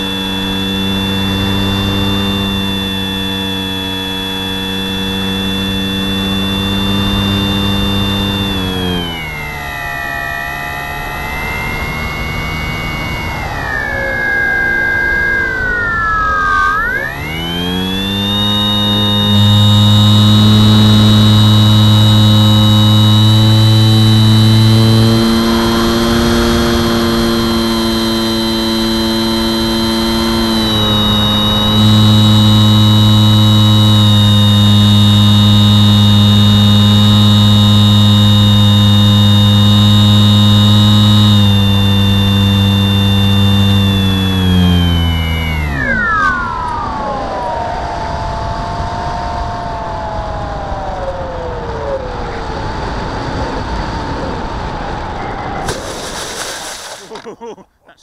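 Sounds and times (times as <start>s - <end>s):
electric motor and propeller whine: 0.0s - 56.8s.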